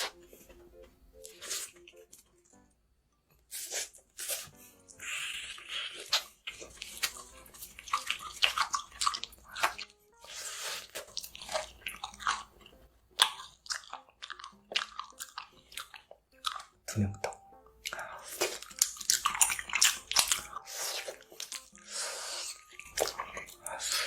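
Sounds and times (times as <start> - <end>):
person chewing with wet clicks: 3.8 - 24.0.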